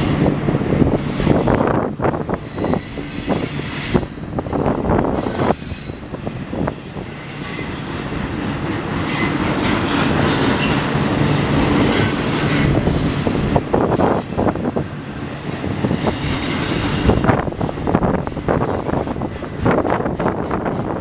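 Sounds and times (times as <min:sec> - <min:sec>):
steel wheels squealing: 0:00.0 - 0:14.6, 0:15.4 - 0:19.2
train cars clunking: 0:00.0 - 0:21.0
train cars rolling rumble: 0:00.0 - 0:21.0.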